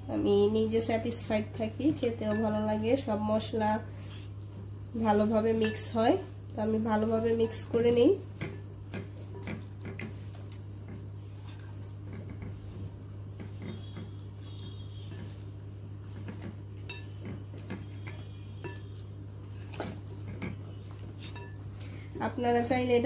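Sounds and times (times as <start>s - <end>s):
steady low hum: 0.0s - 23.0s
wet squishes of mixing meat: 0.0s - 23.0s.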